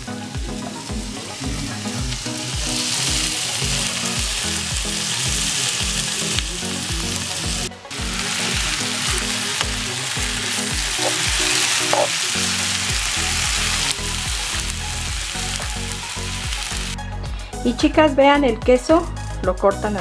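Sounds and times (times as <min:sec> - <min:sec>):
peppers and onion sizzling in pan: 0:00.0 - 0:17.0
background music with steady beat: 0:00.0 - 0:20.0.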